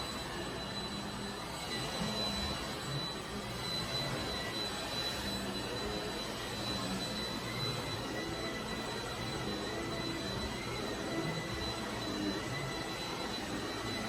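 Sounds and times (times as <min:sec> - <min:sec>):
stick vacuum running on carpet: 0:00.0 - 0:14.0.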